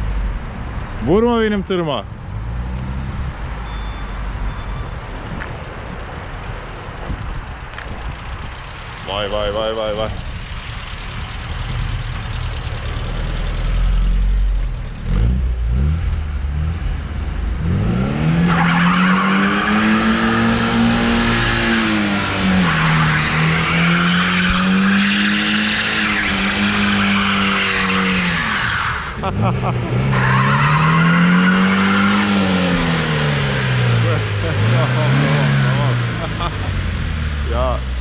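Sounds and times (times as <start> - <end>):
car engine revving: 6.0 - 38.0.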